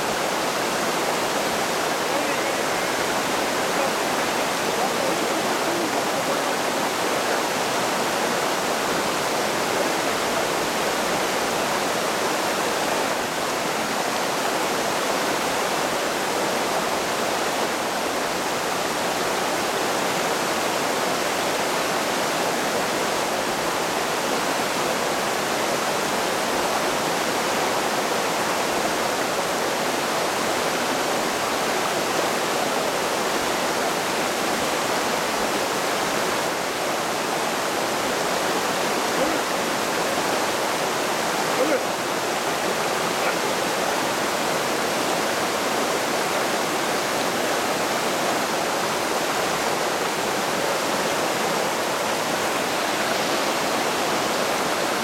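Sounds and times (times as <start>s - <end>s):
creek rushing over boulders: 0.0s - 55.0s.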